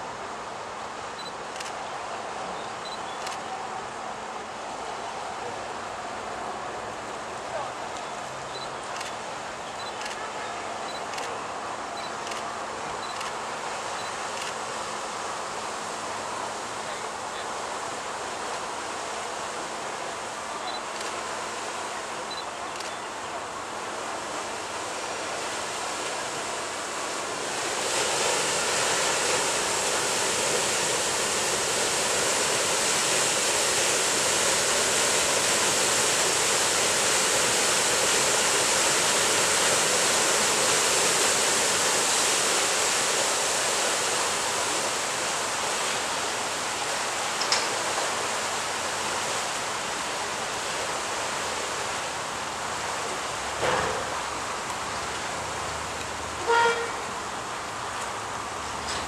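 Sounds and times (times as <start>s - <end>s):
paddle wheels churning water: 0.0s - 59.0s.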